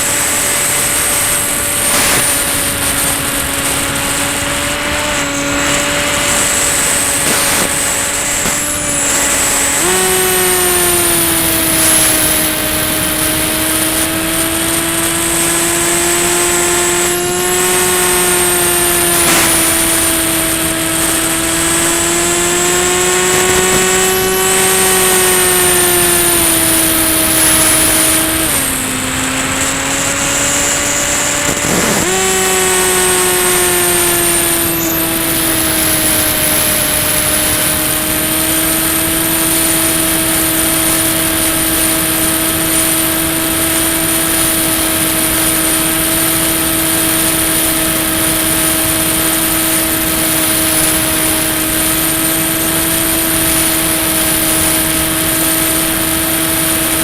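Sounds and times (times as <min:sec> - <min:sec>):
model plane motor whining: 0:00.0 - 0:57.0.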